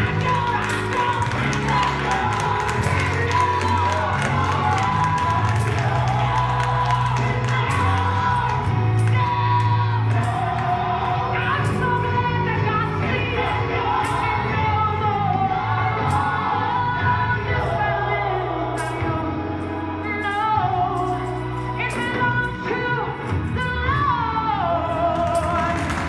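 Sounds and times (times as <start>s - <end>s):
woman singing gospel song: 0.0s - 26.0s.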